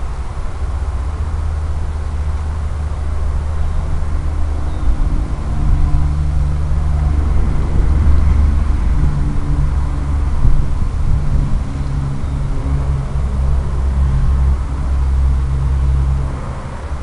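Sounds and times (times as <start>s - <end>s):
faint steady hum: 0.0s - 17.0s
wind rumble on microphone: 0.0s - 17.0s.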